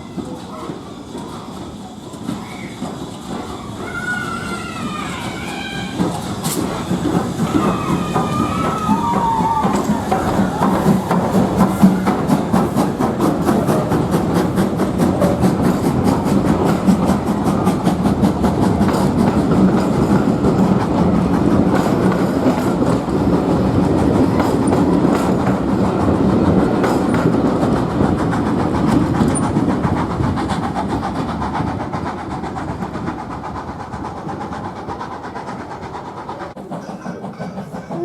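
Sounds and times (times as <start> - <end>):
train wheels clattering on track: 0.0 - 38.0.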